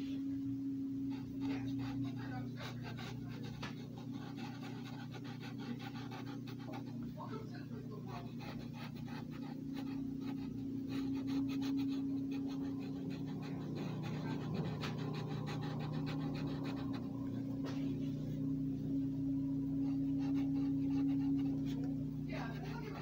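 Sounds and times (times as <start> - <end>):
steady low hum: 0.0 - 23.0
marker scratching on paper: 1.1 - 18.4, 19.7 - 23.0.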